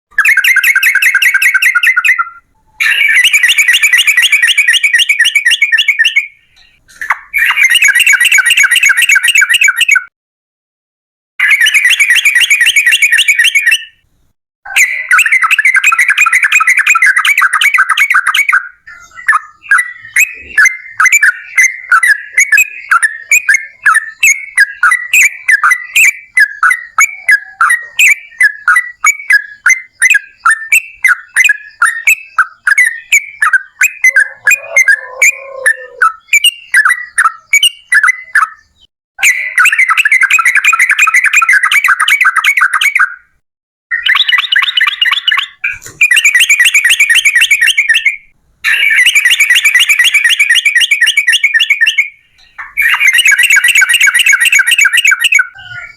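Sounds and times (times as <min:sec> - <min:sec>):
bird chattering and trilling: 0:00.1 - 0:10.1, 0:11.4 - 0:14.0, 0:14.7 - 0:43.3, 0:43.9 - 0:55.9.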